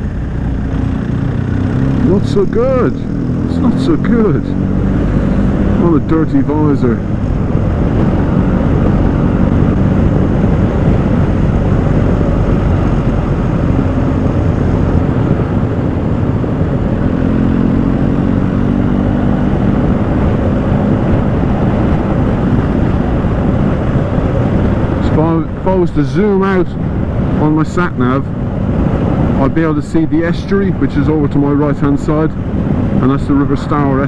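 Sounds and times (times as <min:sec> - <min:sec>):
motorcycle engine: 0:00.0 - 0:34.0
road noise: 0:00.0 - 0:34.0
wind noise: 0:00.0 - 0:34.0.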